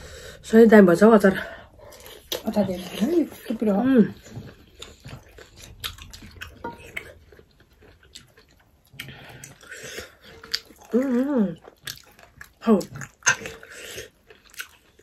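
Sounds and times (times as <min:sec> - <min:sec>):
chewing and lip-smacking: 0:01.8 - 0:15.0.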